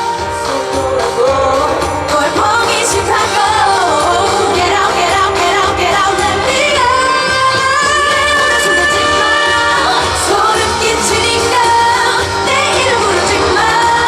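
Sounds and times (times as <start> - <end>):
live pop accompaniment: 0.0 - 14.0
woman singing pop song: 0.0 - 14.0.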